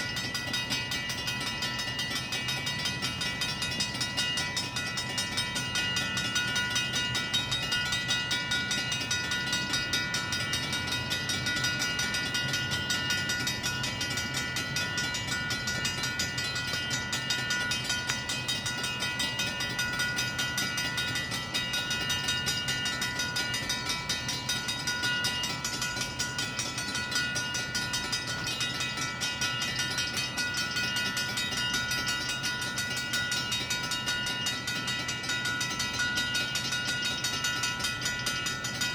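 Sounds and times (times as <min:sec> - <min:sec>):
railroad crossing bells ringing: 0:00.0 - 0:38.9.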